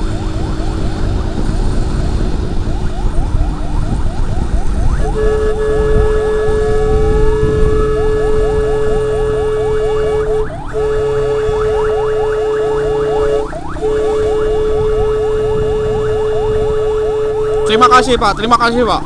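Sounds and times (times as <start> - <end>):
emergency siren yelping: 0.0 - 19.0
engine and road rumble: 0.0 - 19.0
steady siren tone: 0.0 - 19.0.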